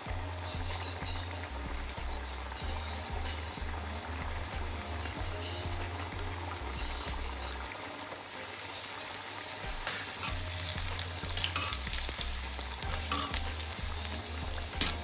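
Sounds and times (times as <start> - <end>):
deep-frying sizzle with pops: 0.0 - 15.0.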